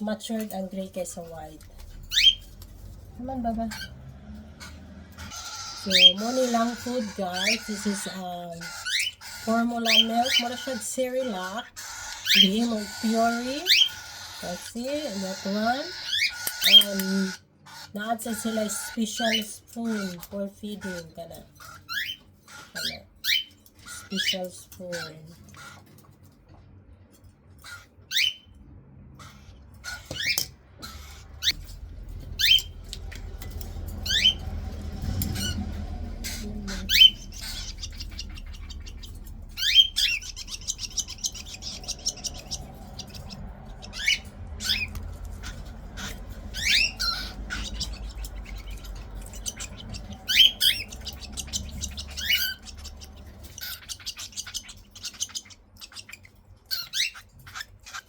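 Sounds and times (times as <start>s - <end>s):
buzzy chick chatter: 0.2s - 26.0s, 29.2s - 58.0s
chicks squawking: 0.3s - 26.0s, 27.5s - 58.0s.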